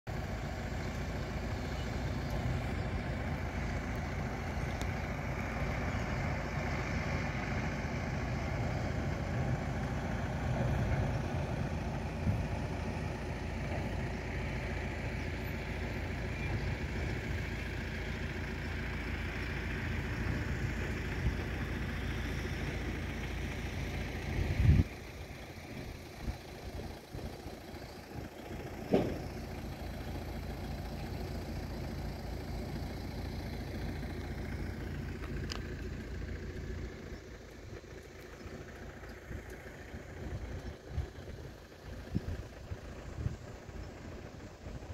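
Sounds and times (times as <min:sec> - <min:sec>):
diesel truck engines rumbling: 0:00.1 - 0:44.9.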